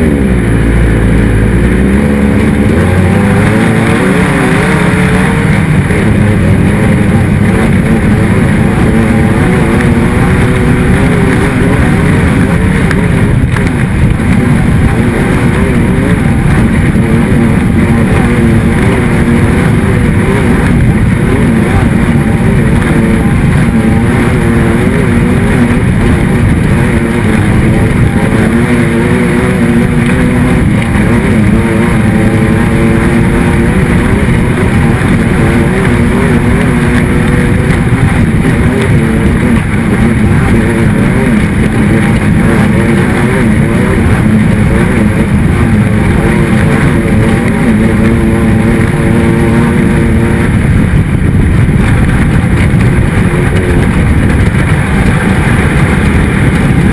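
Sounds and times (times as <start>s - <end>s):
racing engine revving: 0.0s - 56.9s.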